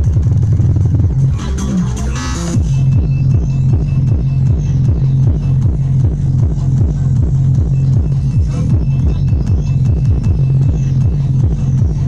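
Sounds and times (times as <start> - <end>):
fast kick drum: 0.0 - 1.2, 2.6 - 12.0
pulsing bassline: 0.0 - 12.0.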